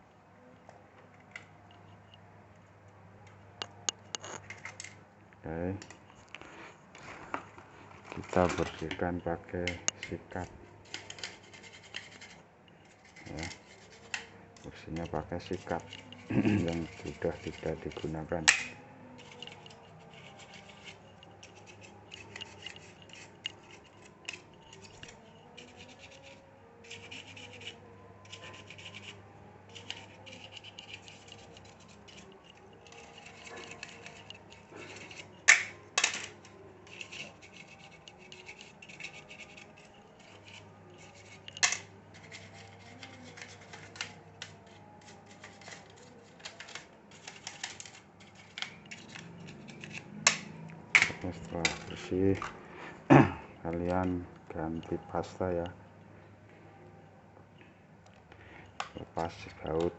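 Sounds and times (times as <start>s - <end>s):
brush scrubbing fan: 6.5s - 55.7s.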